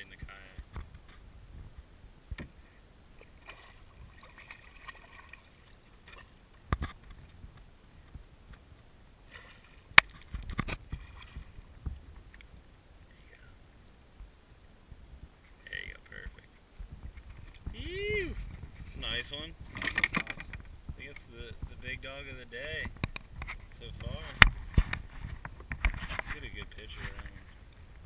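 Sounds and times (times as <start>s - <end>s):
faint water noise: 0.0s - 28.0s.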